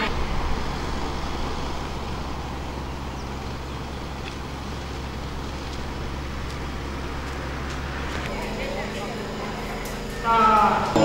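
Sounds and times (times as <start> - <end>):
low hum: 0.0 - 11.0
road traffic rumble: 0.0 - 11.0.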